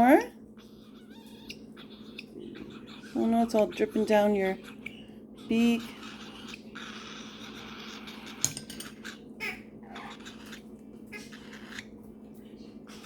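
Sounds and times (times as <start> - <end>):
parrots raspy calls: 0.0 - 12.0.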